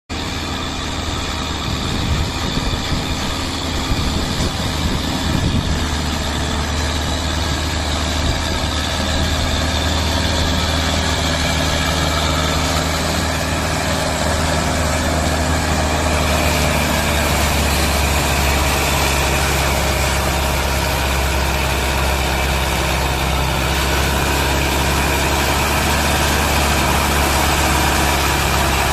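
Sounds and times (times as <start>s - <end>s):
tractor diesel engine running: 0.1s - 28.9s.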